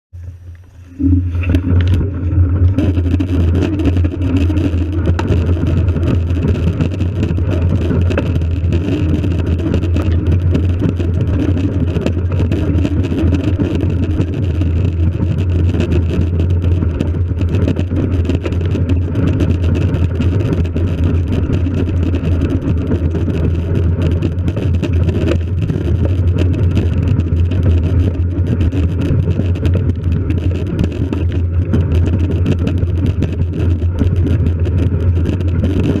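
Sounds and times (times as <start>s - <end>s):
bike tyre rumbling on snow: 0.2s - 36.0s.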